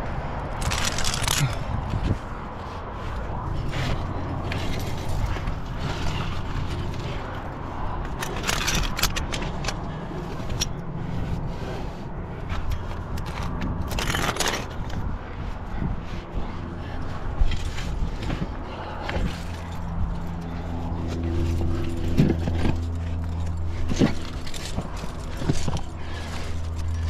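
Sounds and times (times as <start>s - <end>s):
climbing gear clinking: 0.4s - 27.0s.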